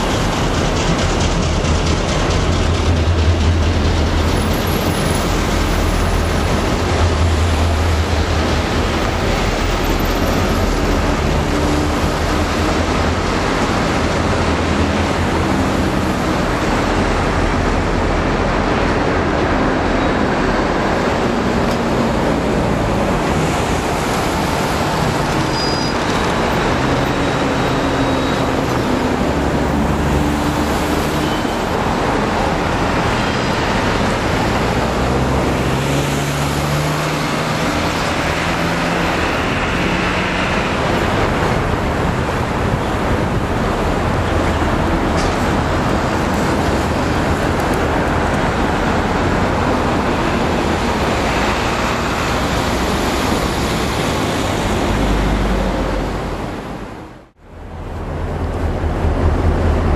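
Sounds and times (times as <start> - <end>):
diesel locomotive engine drone: 0.0 - 59.9
traffic noise: 0.0 - 59.9.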